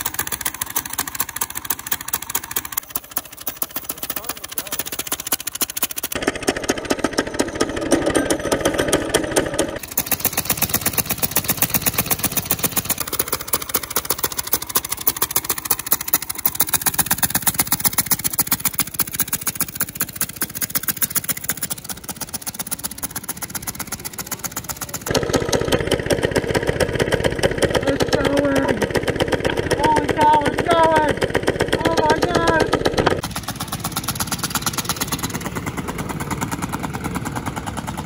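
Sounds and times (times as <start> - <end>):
go-kart engine through trumpet: 0.0 - 38.0.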